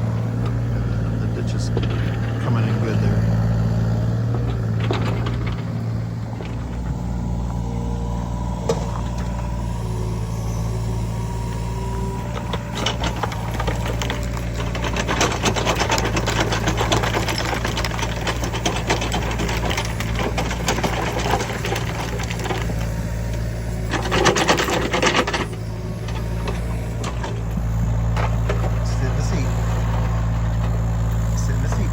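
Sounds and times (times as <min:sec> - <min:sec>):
dense clattering and crunching: 0:00.0 - 0:31.9
diesel engine running: 0:00.0 - 0:31.9.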